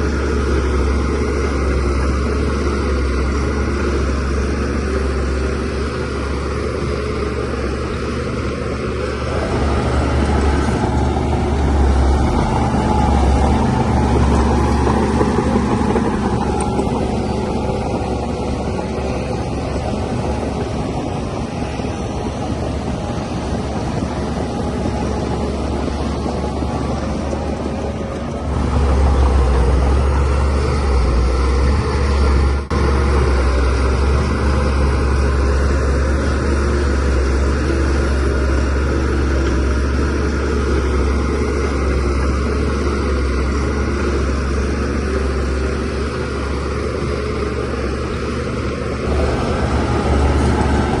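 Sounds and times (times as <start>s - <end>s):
bulldozer diesel engine under load: 0.0s - 51.0s.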